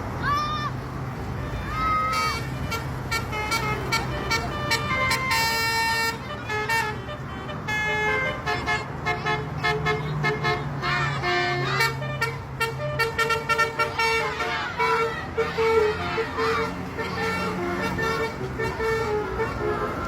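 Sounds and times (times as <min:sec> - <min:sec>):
bus engine hum: 0:00.0 - 0:20.0
multi-tone bus horn melody: 0:01.3 - 0:20.0.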